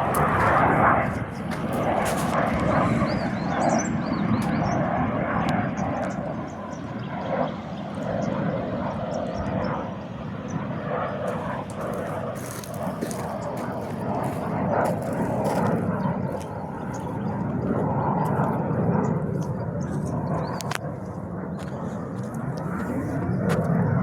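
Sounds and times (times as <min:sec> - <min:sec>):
aircraft engine in flight: 0:00.0 - 0:24.0.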